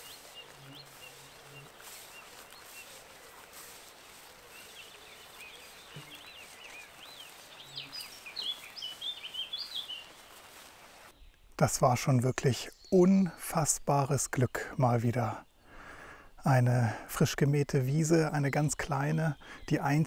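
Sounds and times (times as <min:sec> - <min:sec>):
outdoor background hiss: 0:00.0 - 0:20.0
songbird chirping and twittering: 0:00.0 - 0:20.0.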